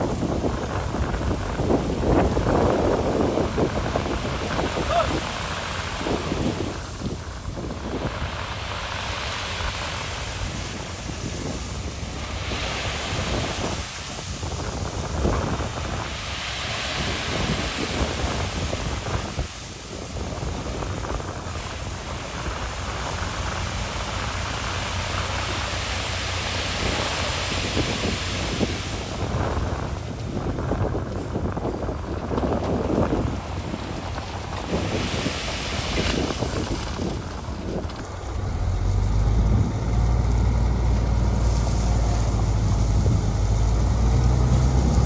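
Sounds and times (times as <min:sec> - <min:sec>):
heavy machinery engines rumbling: 0:00.0 - 0:45.0
wind buffeting microphone: 0:00.0 - 0:45.0.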